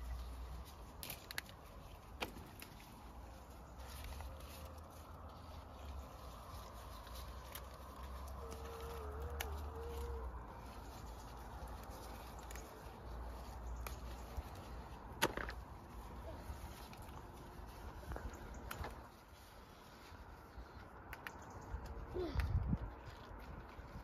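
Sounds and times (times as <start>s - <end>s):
bean pods snapping: 0.0s - 19.2s, 20.7s - 24.0s
vines rustling: 0.0s - 24.0s.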